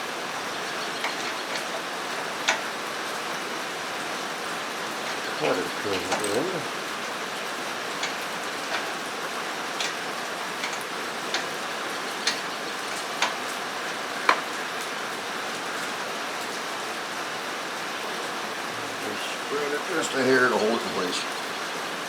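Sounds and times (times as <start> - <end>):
rain on a metal roof: 0.0 - 22.0.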